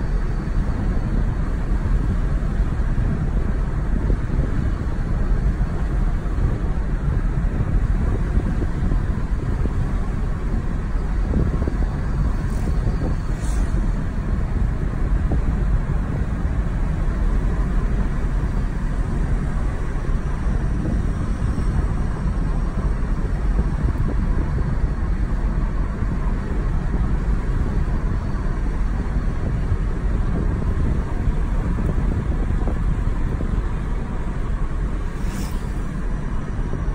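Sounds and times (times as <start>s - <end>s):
car engine running: 0.0s - 36.9s
tyres rumbling on road: 0.0s - 36.9s.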